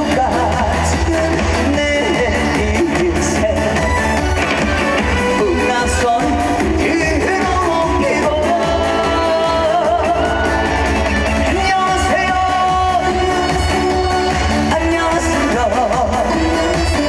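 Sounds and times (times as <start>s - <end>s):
amplified band accompaniment: 0.0s - 17.0s
man singing: 0.0s - 17.0s.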